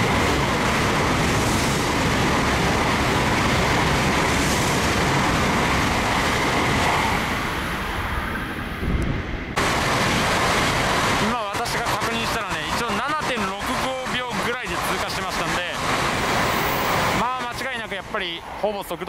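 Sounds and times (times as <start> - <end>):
bullet train passing: 0.0 - 19.0.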